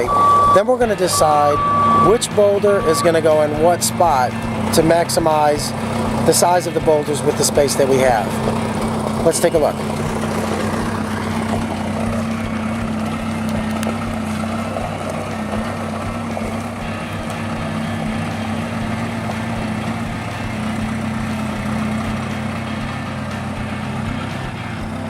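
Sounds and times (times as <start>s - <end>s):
heavy equipment engine idling: 0.0s - 25.0s.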